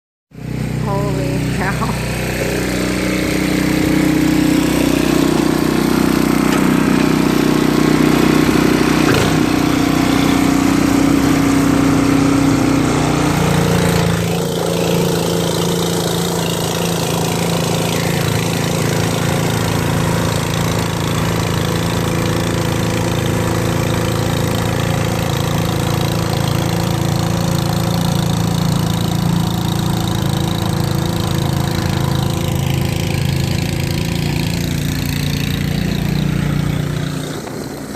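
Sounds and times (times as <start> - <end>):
snowblower engine running: 0.3 - 37.9.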